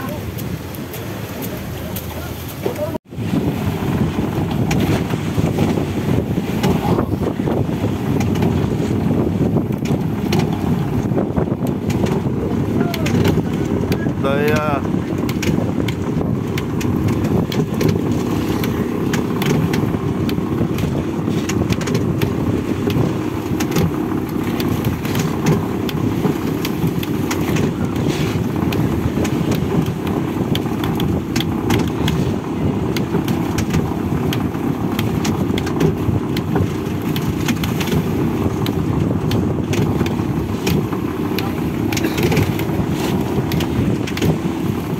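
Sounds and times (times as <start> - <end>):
boat engine running: 0.0 - 44.9
rope clicking and creaking on drum: 6.5 - 44.9.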